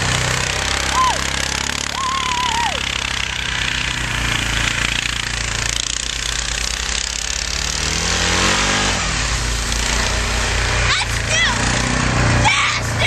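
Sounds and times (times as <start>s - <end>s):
small engine running hard: 0.0s - 13.0s.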